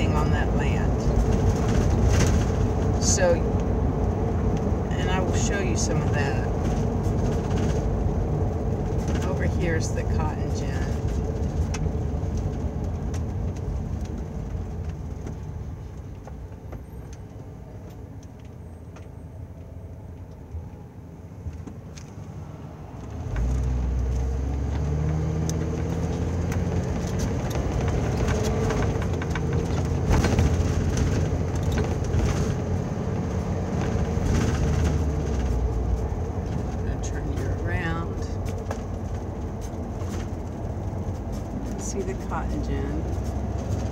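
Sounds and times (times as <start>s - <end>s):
motorhome engine drone: 0.0s - 43.9s
road and tyre noise: 0.0s - 43.9s.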